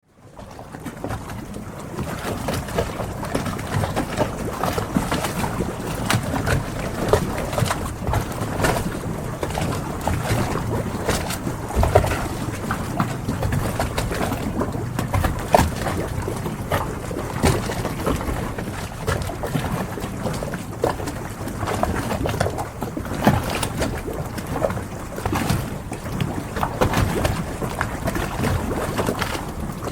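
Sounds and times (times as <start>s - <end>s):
water washing: 0.4s - 29.9s.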